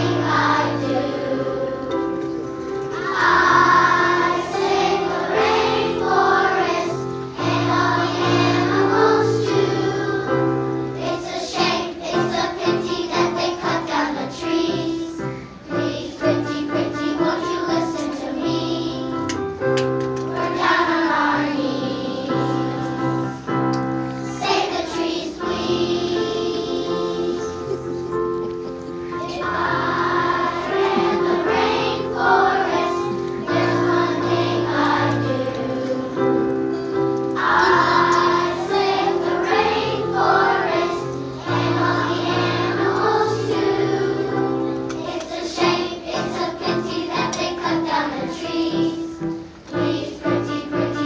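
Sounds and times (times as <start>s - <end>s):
children's choir singing: 0.0s - 51.0s.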